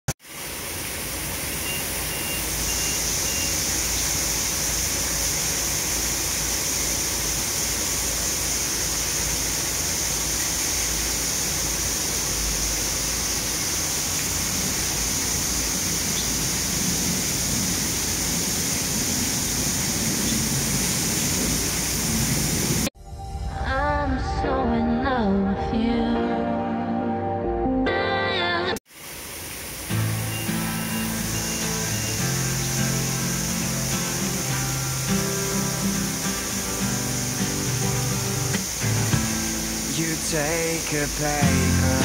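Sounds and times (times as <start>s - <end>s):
waterfall splashing into pool: 0.1s - 22.9s, 28.9s - 42.0s.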